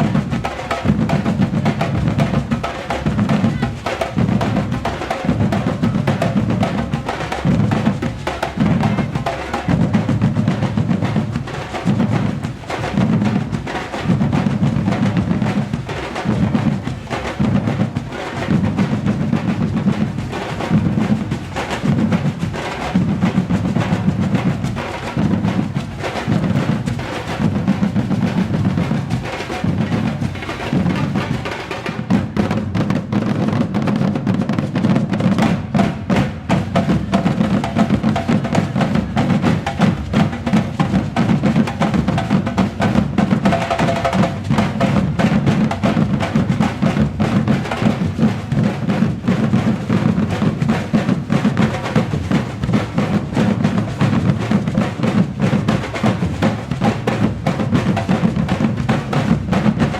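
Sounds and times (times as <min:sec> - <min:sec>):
fast higher drumming: 0:00.0 - 0:59.9.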